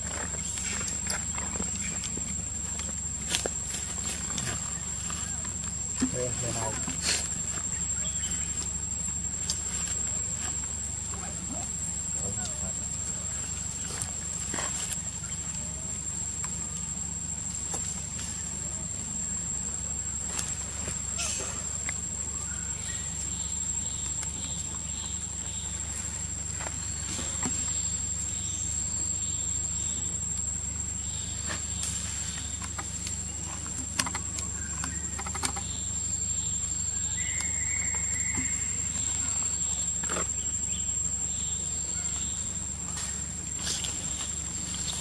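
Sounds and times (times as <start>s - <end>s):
high-pitched insect drone: 0.0s - 45.0s.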